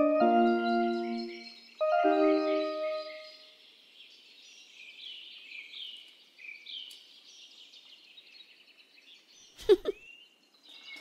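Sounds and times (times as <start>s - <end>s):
small birds chirping: 0.0s - 11.0s
soft outdoor hiss: 0.1s - 11.0s.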